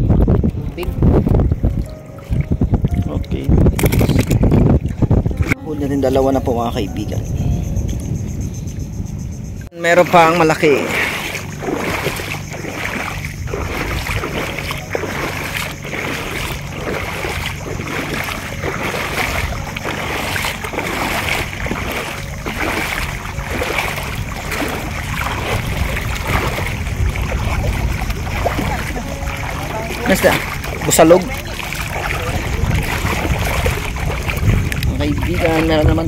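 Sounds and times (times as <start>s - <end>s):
legs wading through seawater: 0.0s - 5.6s, 9.8s - 36.0s
wind rumble on microphone: 0.0s - 9.7s, 10.6s - 36.0s.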